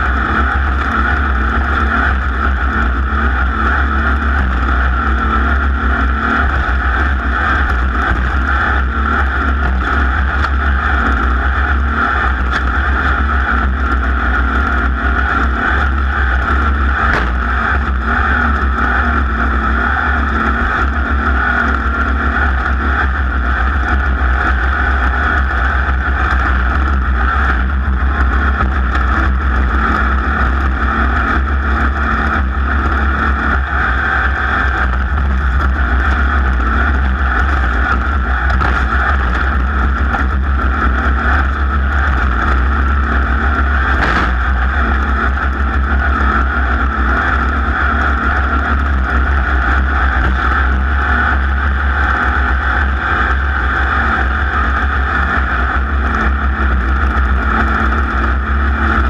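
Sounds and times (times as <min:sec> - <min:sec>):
racing engine running hard: 0:00.0 - 0:59.0.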